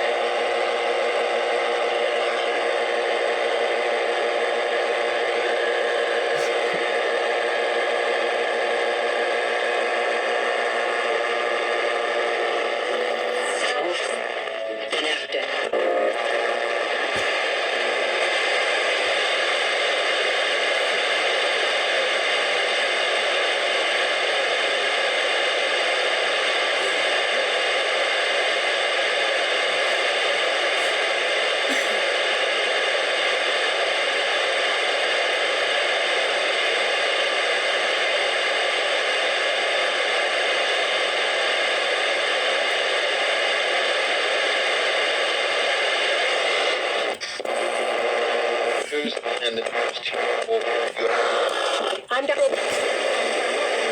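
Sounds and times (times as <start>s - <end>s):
radio static hiss: 0.0s - 53.9s.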